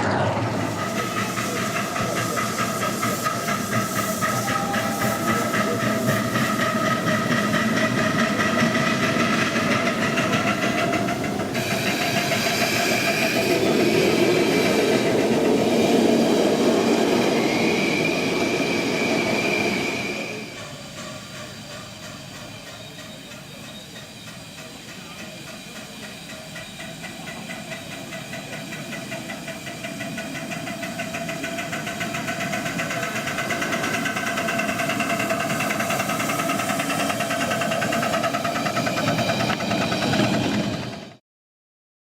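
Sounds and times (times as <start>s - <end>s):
hiss: 0.4s - 41.2s
miniature train wheels clattering: 0.8s - 14.5s, 20.6s - 41.2s.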